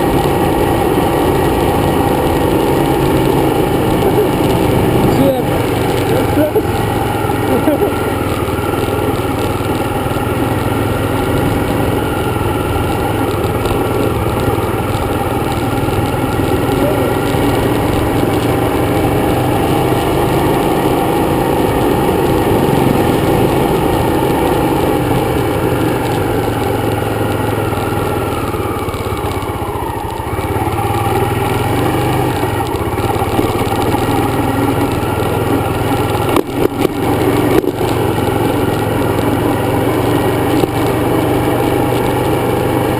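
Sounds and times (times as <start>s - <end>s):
dirt bike engine running: 0.0s - 42.9s.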